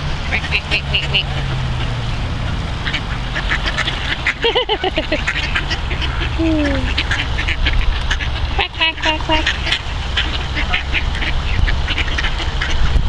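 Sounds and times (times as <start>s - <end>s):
ducks quacking: 0.0s - 13.0s
wind rumble on microphone: 0.0s - 13.0s.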